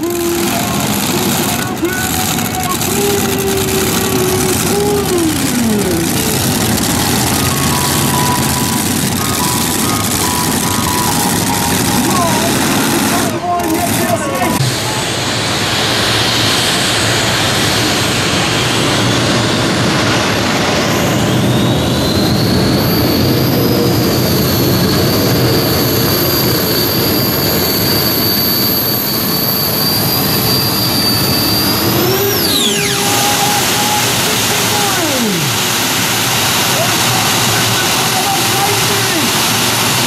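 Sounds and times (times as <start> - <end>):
high steady whine: 0.0 - 40.0
pulling tractor engines roaring: 0.0 - 40.0.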